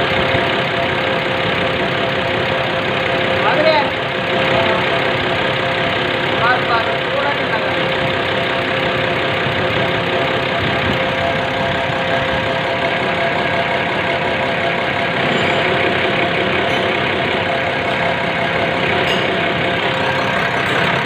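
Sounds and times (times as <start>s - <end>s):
pump test bench running: 0.0s - 21.0s.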